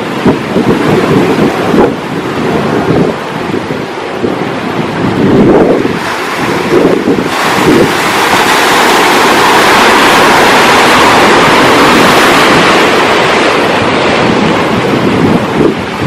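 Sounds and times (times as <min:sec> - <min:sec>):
ocean wave breaking: 0:00.0 - 0:16.0.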